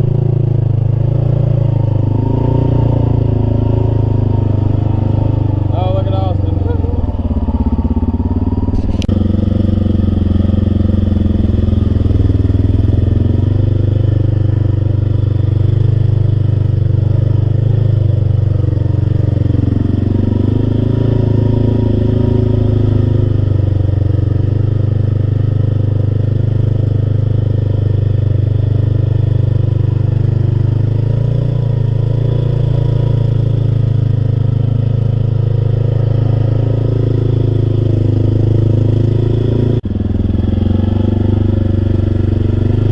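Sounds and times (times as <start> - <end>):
large vehicle engine droning: 0.0 - 42.9.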